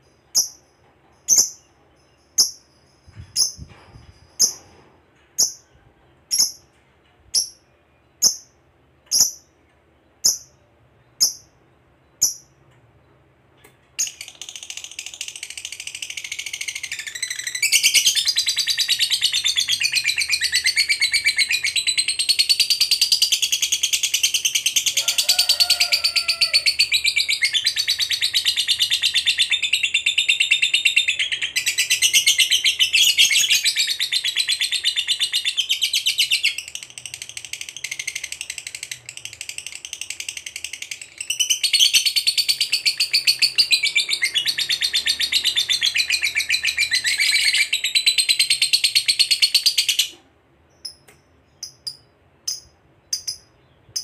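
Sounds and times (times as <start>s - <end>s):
lovebird chattering song: 0.2s - 4.6s, 6.3s - 6.7s, 8.2s - 9.5s, 14.0s - 25.0s, 26.3s - 54.0s.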